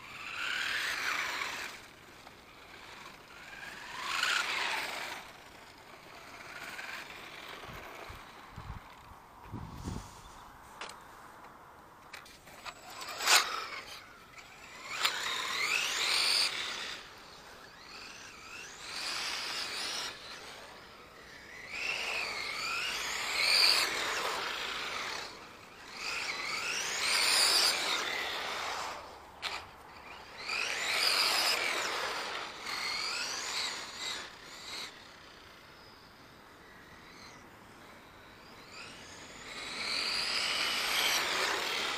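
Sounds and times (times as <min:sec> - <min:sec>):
toy car motor whining: 0:00.0 - 0:10.0, 0:12.1 - 0:41.9.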